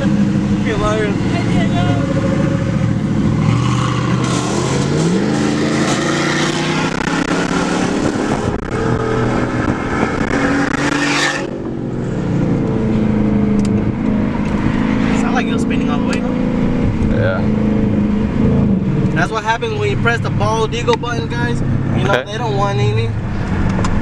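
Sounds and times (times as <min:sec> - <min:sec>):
car engine accelerating hard: 0:00.0 - 0:24.0
wind and road noise: 0:00.0 - 0:24.0.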